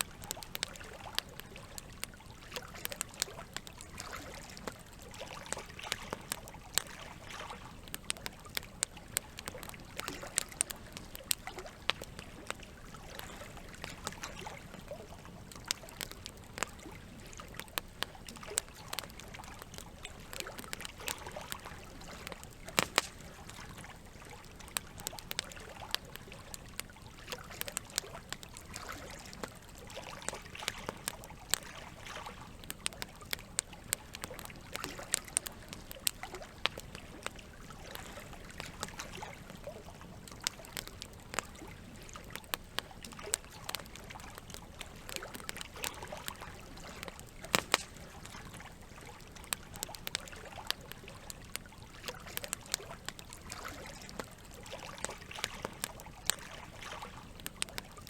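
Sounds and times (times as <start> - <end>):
campfire crackling and popping: 0.0 - 58.0
trickling water: 0.0 - 58.0.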